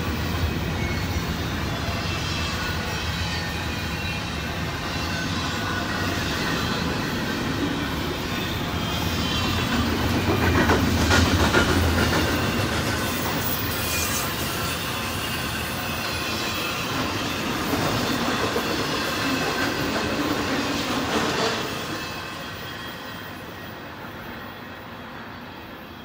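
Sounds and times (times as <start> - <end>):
steel wheels rolling on rail: 0.0 - 26.0.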